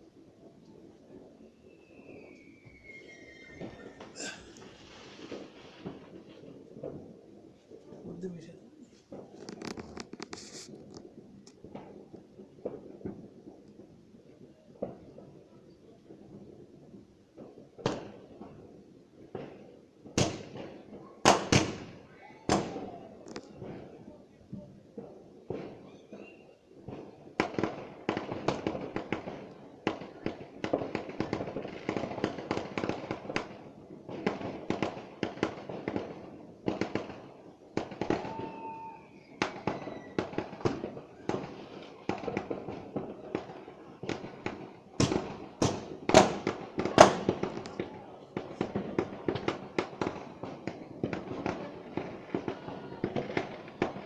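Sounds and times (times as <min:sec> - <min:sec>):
sharp crackles: 0:00.0 - 0:54.0.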